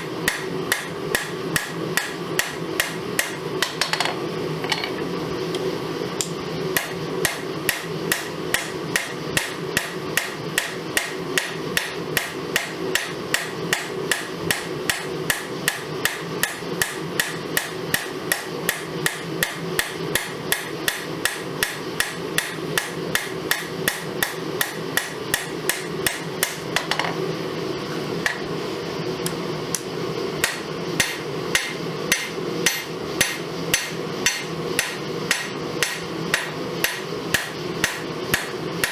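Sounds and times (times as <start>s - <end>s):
hammer striking steel on anvil: 0.2s - 4.1s, 6.8s - 27.1s, 29.8s - 38.9s.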